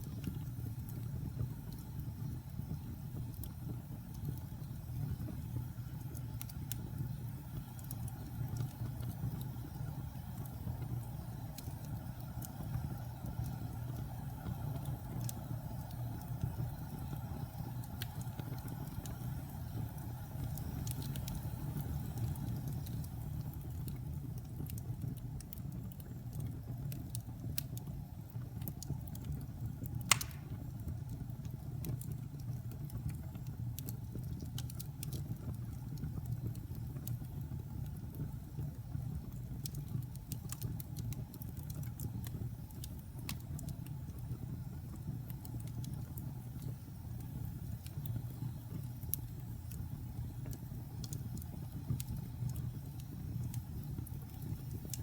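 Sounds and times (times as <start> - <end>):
fire crackling and popping: 0.0 - 55.0
wood fire rumbling: 0.0 - 55.0.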